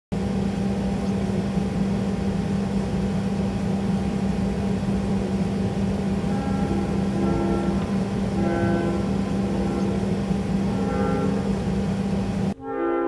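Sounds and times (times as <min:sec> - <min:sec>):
jet engine cabin drone: 0:00.1 - 0:13.0
constant low hum: 0:00.2 - 0:12.6.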